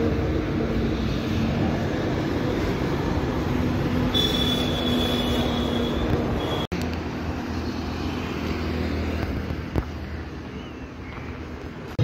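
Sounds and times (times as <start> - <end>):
vehicle road noise rumble: 0.0 - 12.0.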